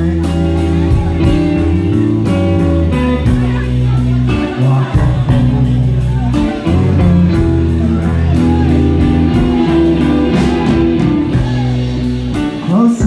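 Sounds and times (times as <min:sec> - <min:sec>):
electric guitar with bent notes: 0:00.0 - 0:13.0
sustained bass: 0:00.0 - 0:13.0.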